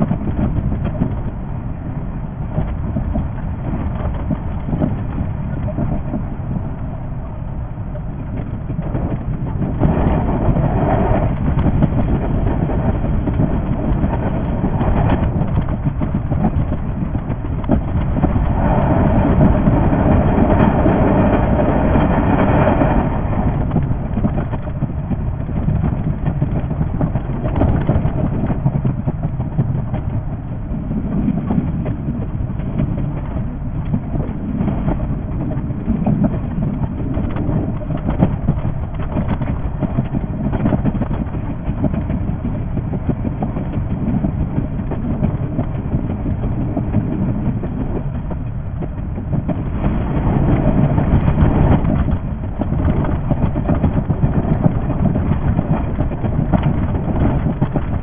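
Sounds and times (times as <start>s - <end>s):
electric train running rumble: 0.0s - 58.0s.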